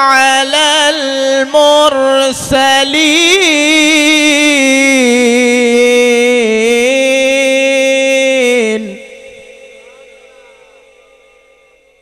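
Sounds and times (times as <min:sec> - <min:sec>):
man reciting melodically: 0:00.0 - 0:11.6.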